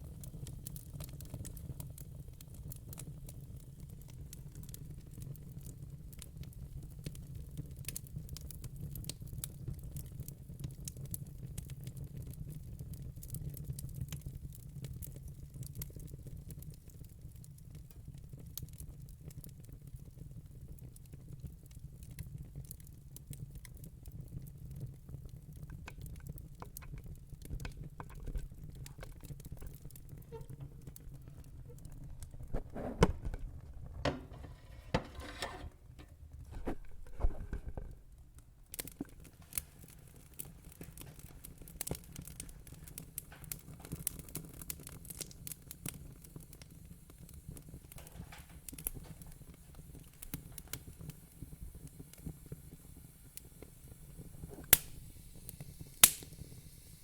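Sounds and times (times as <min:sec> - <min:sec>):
fire crackling and popping: 0:00.0 - 0:57.0
low fire rumble: 0:00.0 - 0:57.0.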